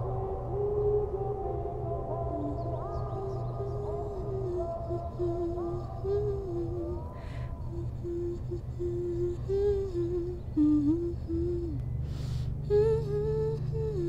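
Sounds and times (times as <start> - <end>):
slow soft film score: 0.0 - 14.0.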